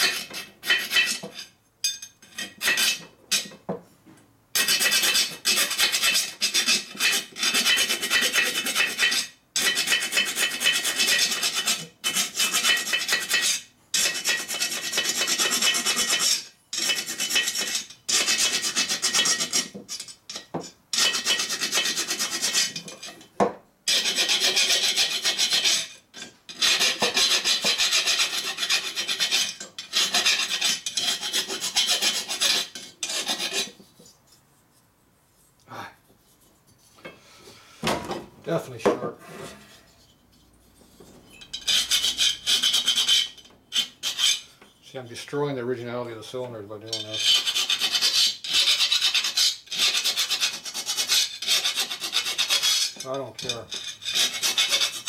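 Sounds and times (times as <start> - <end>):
metal file rasping on iron: 0.0 - 1.6, 2.3 - 3.6, 4.6 - 23.3, 23.9 - 34.4, 41.4 - 44.9, 46.3 - 55.0.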